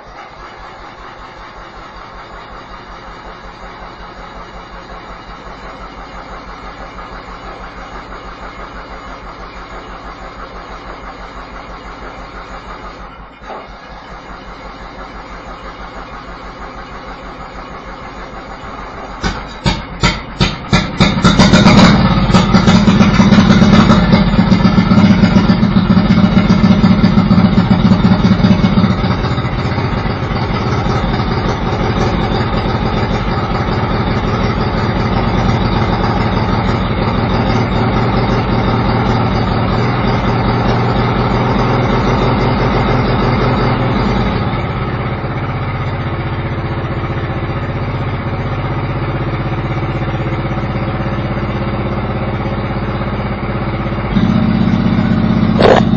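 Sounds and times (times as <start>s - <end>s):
lawn mower engine running: 0.0s - 55.9s.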